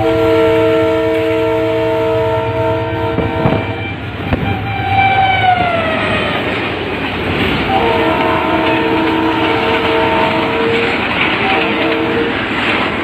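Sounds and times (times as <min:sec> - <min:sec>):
locomotive air horn: 0:00.0 - 0:06.5, 0:07.6 - 0:12.5
moving train running noise: 0:00.0 - 0:13.0.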